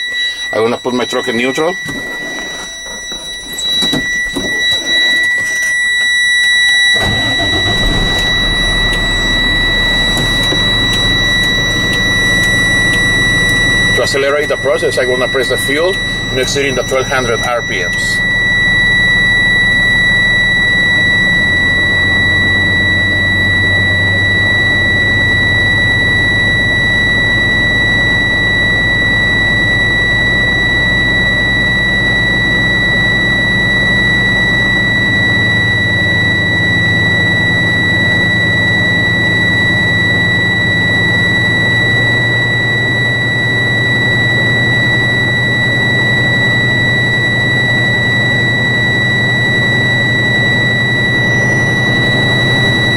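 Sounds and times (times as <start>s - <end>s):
warning buzzer steady high tone: 0.0s - 52.9s
diesel engine at fast idle: 2.0s - 52.9s.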